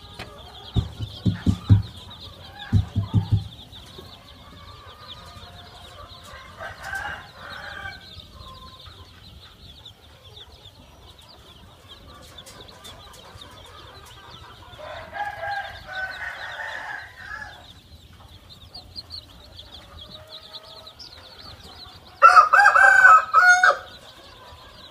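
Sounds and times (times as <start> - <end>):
high chirping: 0.0 - 24.9
roosters crowing: 0.0 - 24.9.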